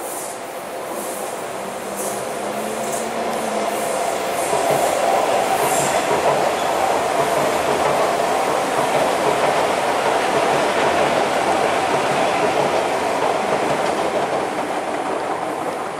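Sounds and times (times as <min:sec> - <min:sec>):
train wheels rolling on rails: 0:00.0 - 0:15.9.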